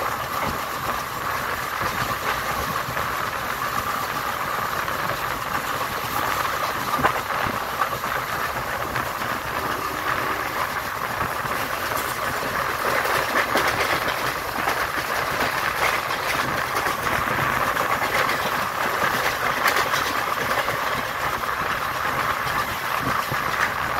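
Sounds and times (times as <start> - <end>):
diesel locomotive engine chugging: 0.0 - 23.9
wheel-on-rail noise: 0.0 - 23.9.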